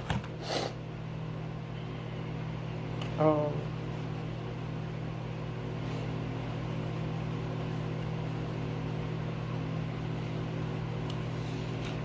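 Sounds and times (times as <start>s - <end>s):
steady low hum with tones: 0.0s - 12.0s.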